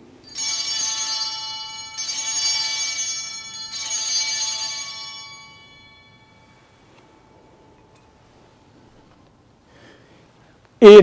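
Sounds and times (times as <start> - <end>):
small bells ringing: 0.0 - 9.2.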